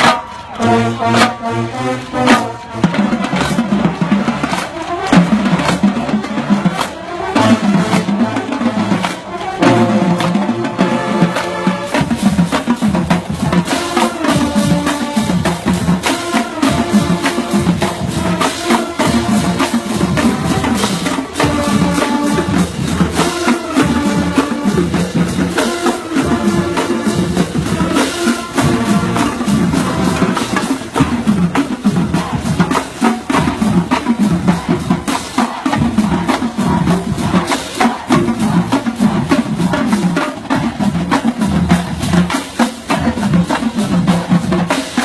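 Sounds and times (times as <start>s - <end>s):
drum line beat: 0.0s - 45.0s
marching band playing: 0.0s - 45.0s.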